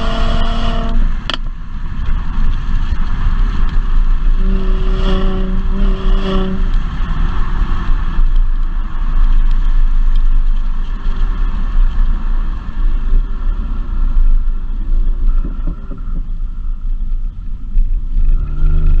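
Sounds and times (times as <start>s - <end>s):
car engine low rumble: 0.0s - 19.0s.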